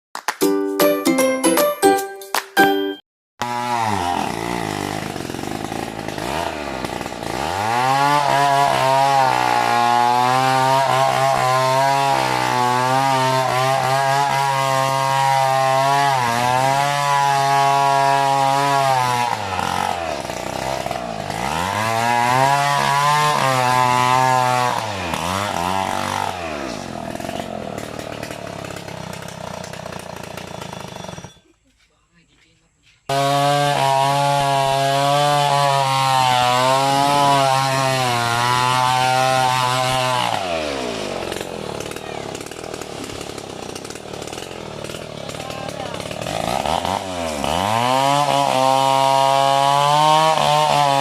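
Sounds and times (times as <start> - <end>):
chainsaw cutting wood: 3.4 - 31.6, 33.0 - 51.0.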